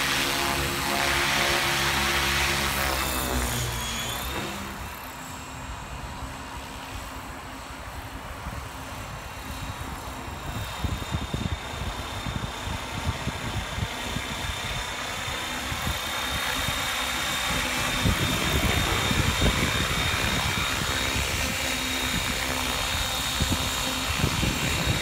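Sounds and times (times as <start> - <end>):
model helicopter motor whine: 0.0 - 25.0.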